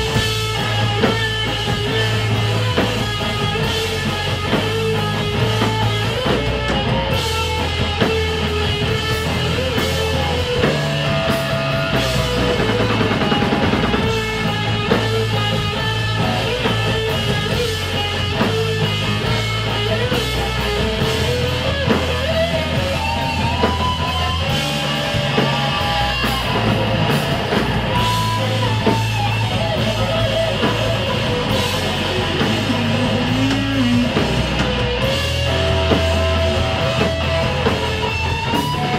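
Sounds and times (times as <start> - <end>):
bass notes: 0.0 - 38.9
drums: 0.0 - 38.9
electric guitar lead: 0.0 - 38.9.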